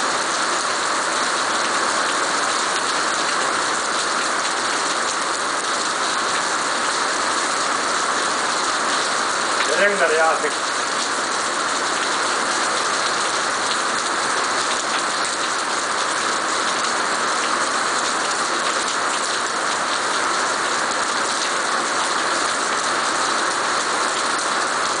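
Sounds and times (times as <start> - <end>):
heavy rain on paving: 0.0 - 25.0.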